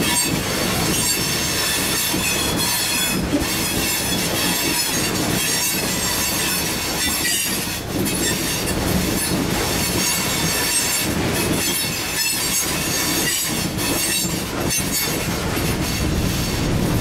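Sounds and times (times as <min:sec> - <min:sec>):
train wheels roaring: 0:00.0 - 0:17.0.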